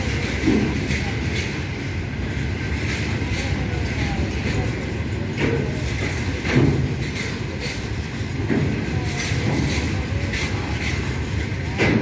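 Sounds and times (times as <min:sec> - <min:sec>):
freight wagons rumbling on rails: 0:00.0 - 0:12.0
wheels clunking over rail joints: 0:00.0 - 0:12.0.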